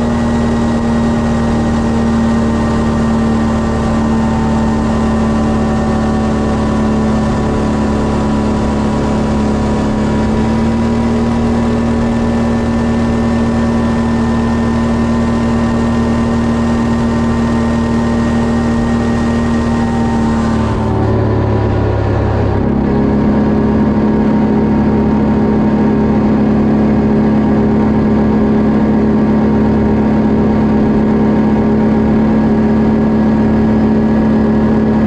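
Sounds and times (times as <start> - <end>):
quad bike engine drone: 0.0 - 35.0.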